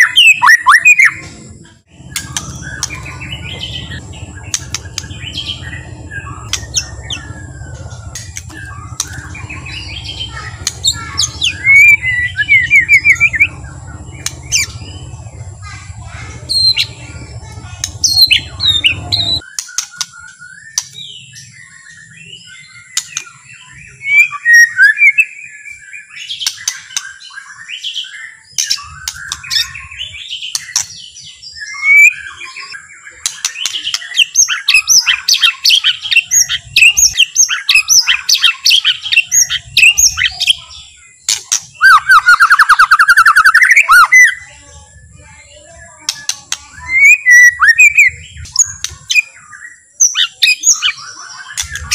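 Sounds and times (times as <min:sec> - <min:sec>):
songbird singing varied song: 0:00.0 - 0:51.9.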